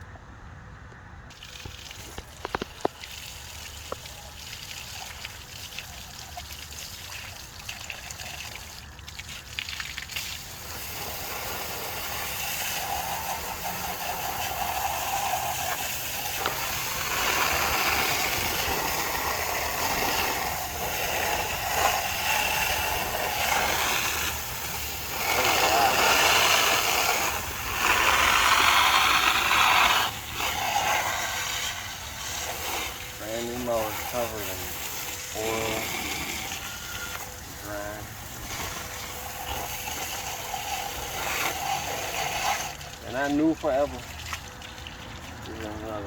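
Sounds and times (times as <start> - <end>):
water spraying on metal: 1.3 - 46.0.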